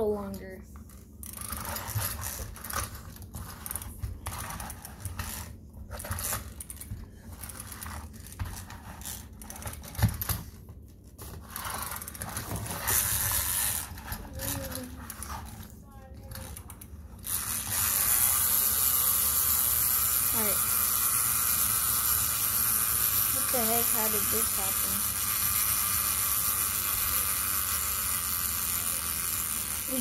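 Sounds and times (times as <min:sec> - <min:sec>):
clockwork gears whirring: 0:00.9 - 0:10.4, 0:11.2 - 0:15.7, 0:16.3 - 0:30.0.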